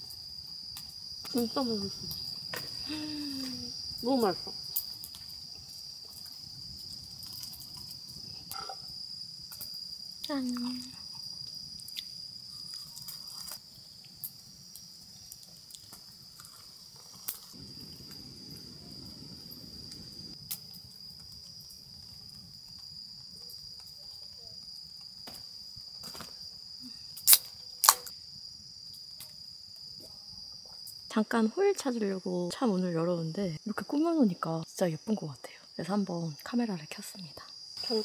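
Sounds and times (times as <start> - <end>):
crickets chirring: 0.0 - 38.0.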